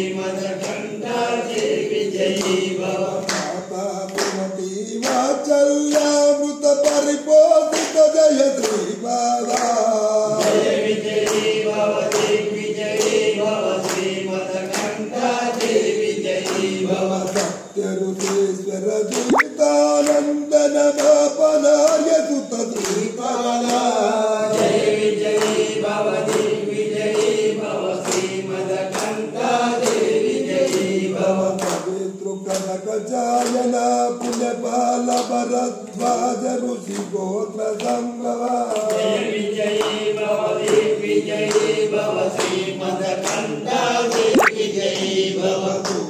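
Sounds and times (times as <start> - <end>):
voices chanting devotional music: 0.0 - 46.0.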